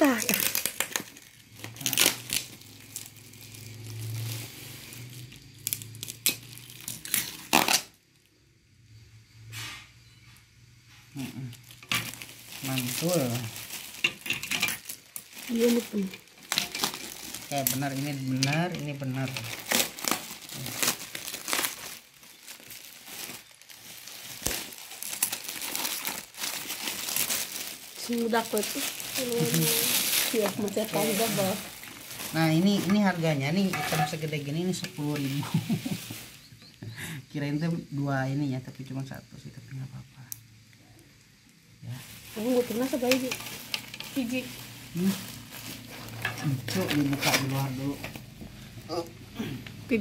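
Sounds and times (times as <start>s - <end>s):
plastic wrapping crinkling: 0.0s - 8.3s, 11.2s - 36.8s, 41.8s - 50.0s.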